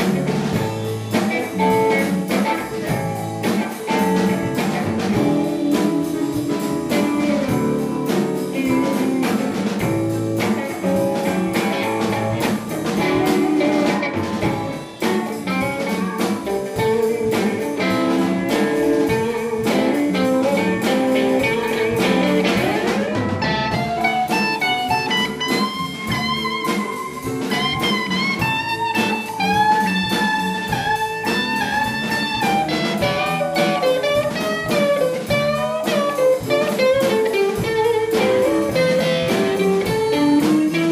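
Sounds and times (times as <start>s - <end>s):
electric blues band playing: 0.0s - 40.9s
electric guitar solo: 0.0s - 40.9s.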